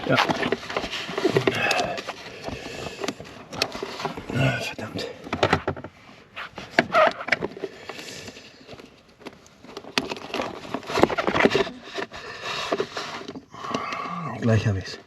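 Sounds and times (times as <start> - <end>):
hands rustling and scraping wiring: 0.0 - 15.0.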